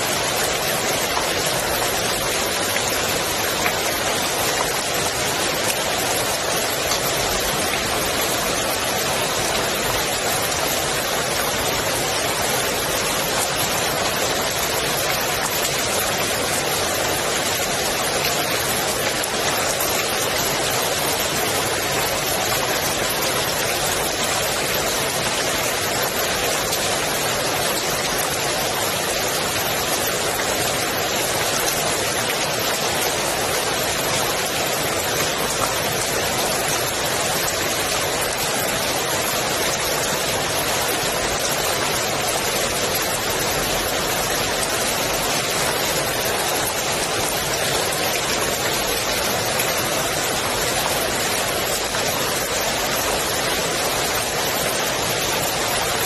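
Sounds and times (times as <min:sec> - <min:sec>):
rain falling on pool water: 0:00.0 - 0:56.0.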